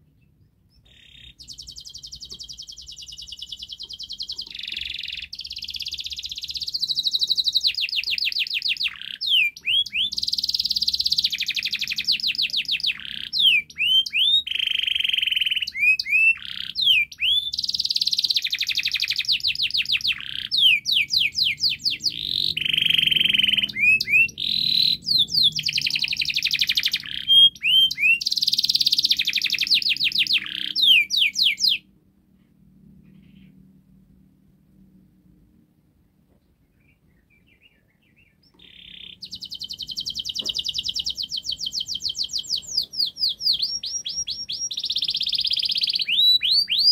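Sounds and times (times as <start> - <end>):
canary singing trills: 0.0 - 31.8, 36.8 - 46.9.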